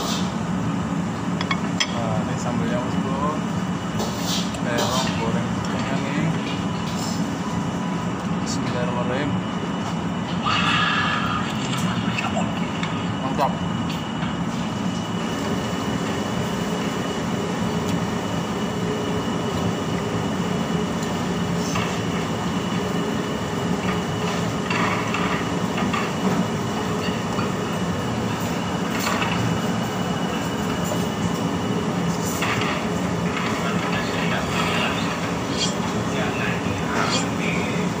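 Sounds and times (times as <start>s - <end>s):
loud mechanical drone: 0.0s - 38.0s.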